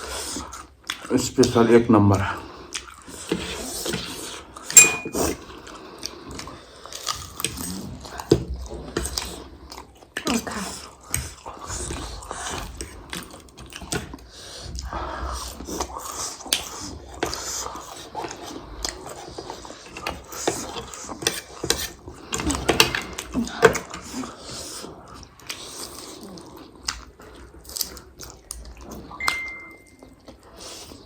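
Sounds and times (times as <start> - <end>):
people chewing food: 0.0 - 4.8, 5.4 - 31.0.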